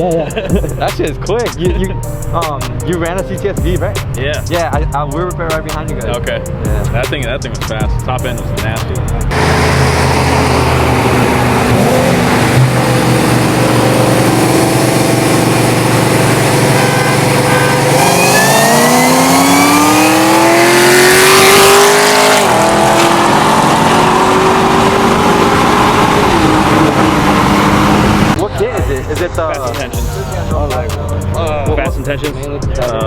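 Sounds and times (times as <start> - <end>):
car engine at full throttle: 4.0 - 33.0.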